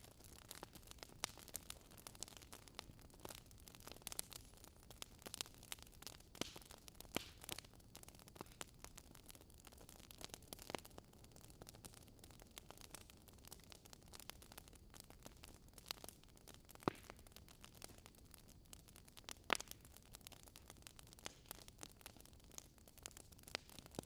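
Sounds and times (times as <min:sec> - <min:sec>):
campfire crackling: 0:00.0 - 0:24.0
fire popping: 0:00.0 - 0:24.0.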